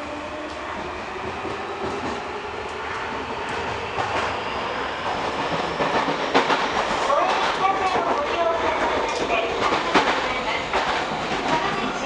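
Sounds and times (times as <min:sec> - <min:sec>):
train rumble and rail noise: 0:00.0 - 0:12.0
train wheels clicking: 0:00.5 - 0:12.0.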